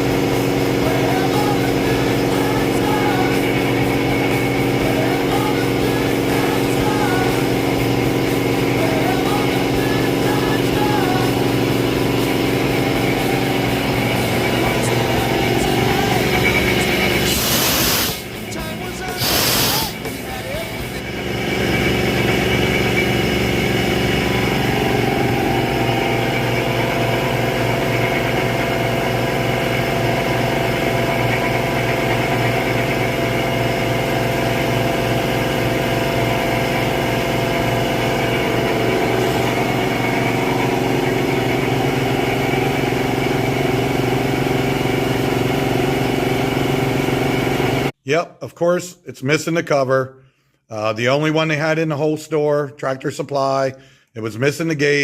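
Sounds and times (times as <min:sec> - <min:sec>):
air compressor running: 0:00.0 - 0:48.0.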